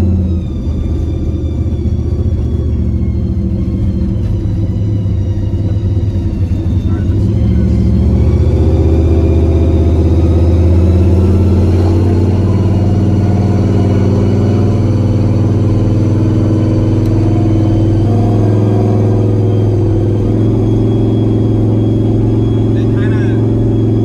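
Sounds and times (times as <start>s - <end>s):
engine deep rumble: 0.0s - 24.0s.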